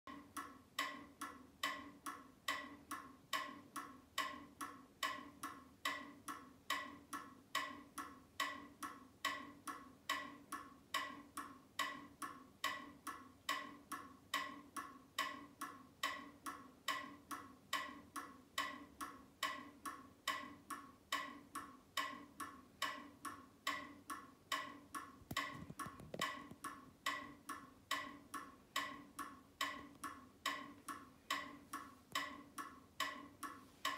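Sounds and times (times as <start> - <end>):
waving cat mechanism ticking: 0.1 - 33.9.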